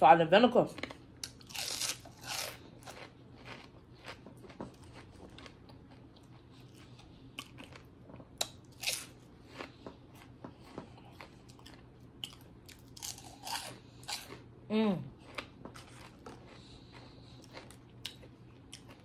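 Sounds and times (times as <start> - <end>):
crunching and chewing pork skins: 0.5 - 19.0.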